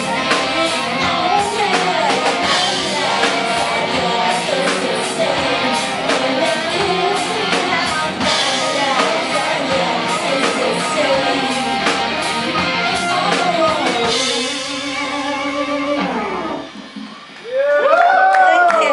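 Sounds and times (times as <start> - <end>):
person singing: 0.0 - 16.6
live rock band playing: 0.0 - 18.7.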